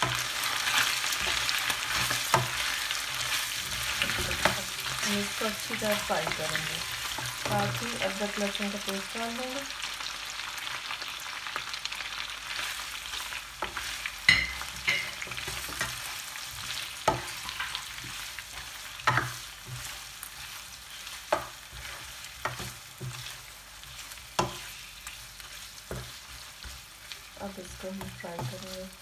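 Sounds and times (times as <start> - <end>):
meat sizzling in frying pan: 0.0 - 29.0.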